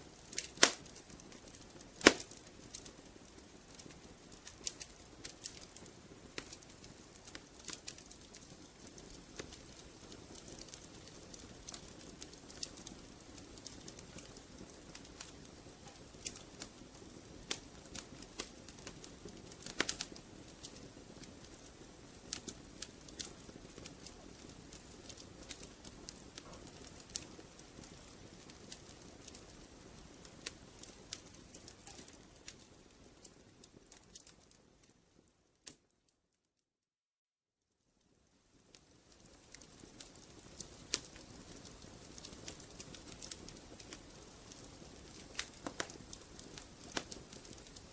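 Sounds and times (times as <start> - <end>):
wood fire crackling: 0.0 - 36.1, 38.0 - 47.9.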